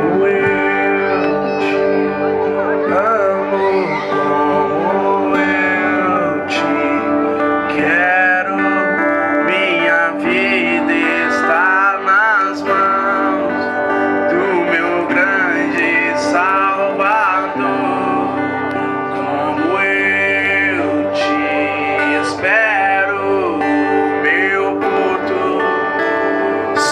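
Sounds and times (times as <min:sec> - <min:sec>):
country guitar accompaniment: 0:00.0 - 0:26.9
person singing with vibrato: 0:00.0 - 0:26.9.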